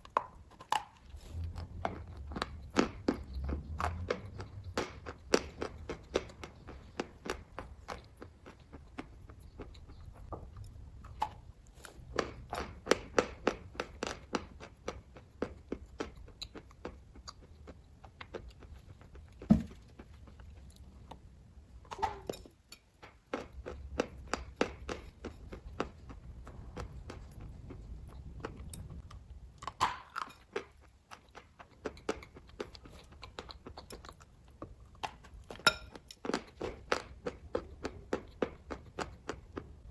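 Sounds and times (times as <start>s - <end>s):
person chewing: 0.0s - 21.3s, 22.2s - 39.9s.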